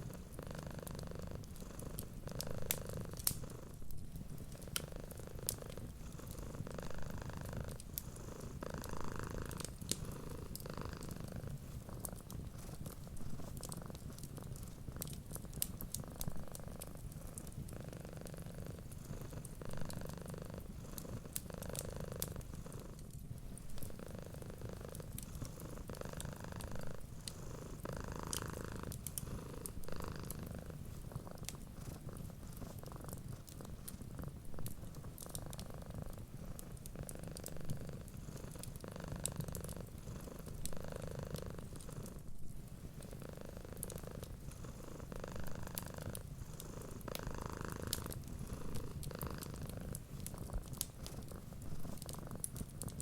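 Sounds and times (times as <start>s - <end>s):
cat purring: 0.0s - 53.0s
wood fire crackling and popping: 0.2s - 8.0s, 8.8s - 53.0s.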